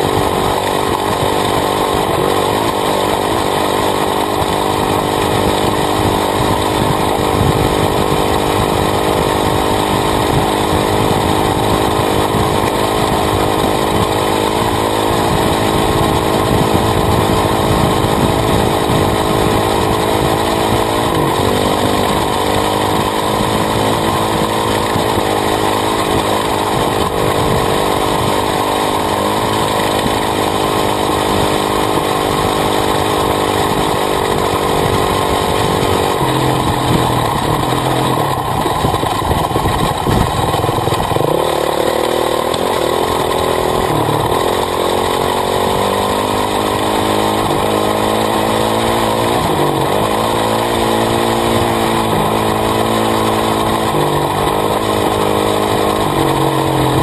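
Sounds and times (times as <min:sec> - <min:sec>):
dirt bike engine running hard: 0:00.0 - 0:57.0
tyres on gravel: 0:00.0 - 0:57.0.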